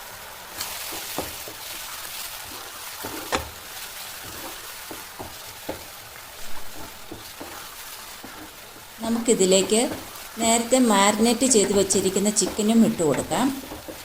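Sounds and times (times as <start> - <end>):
food sizzling in a pan: 0.0 - 14.0
spoon scraping a pan: 2.5 - 14.0.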